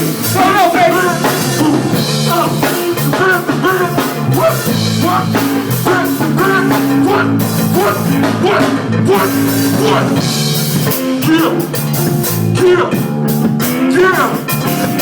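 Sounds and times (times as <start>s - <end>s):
bass guitar line: 0.0s - 15.0s
drum kit beat: 0.0s - 15.0s
electric guitar phrases: 0.0s - 15.0s.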